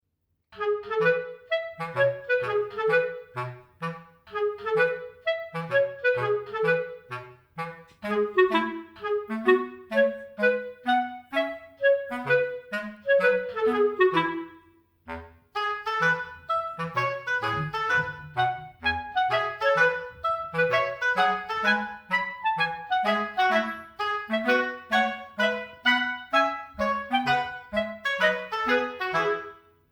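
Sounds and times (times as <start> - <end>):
woodwind playing staccato tune: 0.6 - 29.9.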